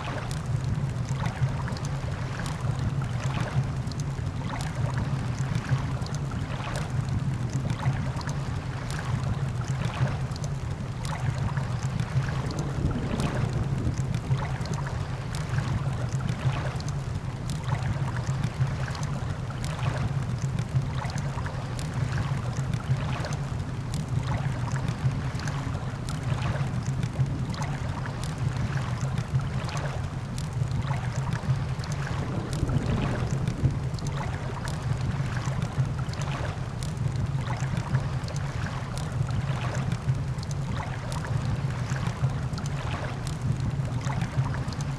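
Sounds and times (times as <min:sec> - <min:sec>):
surf rumble: 0:00.0 - 0:44.9
wind: 0:00.0 - 0:44.9.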